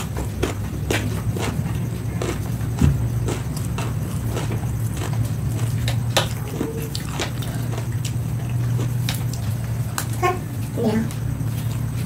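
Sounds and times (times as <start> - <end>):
chewing: 0.0 - 12.0
steady low hum: 0.0 - 12.0.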